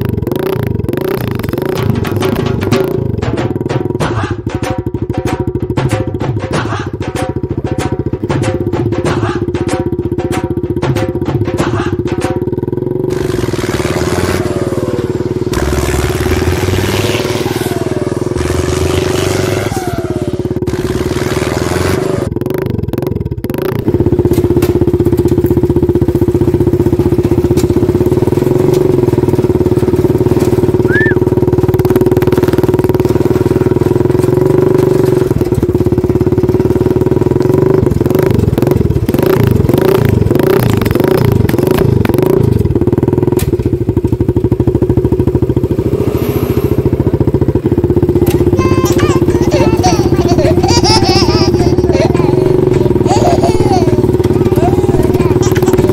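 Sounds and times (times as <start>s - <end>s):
small tractor engine running: 0.0s - 55.9s.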